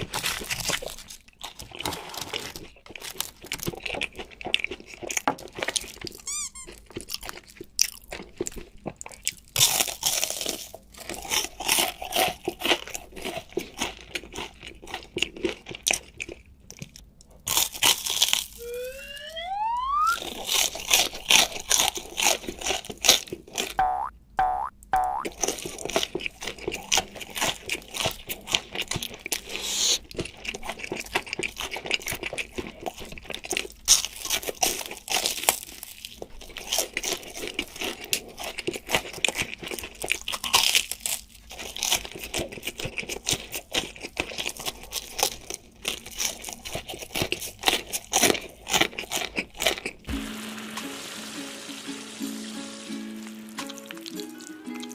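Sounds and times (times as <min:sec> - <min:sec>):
crunchy food chewing: 0:00.0 - 0:18.7, 0:20.2 - 0:23.8, 0:25.2 - 0:50.1, 0:53.1 - 0:54.9.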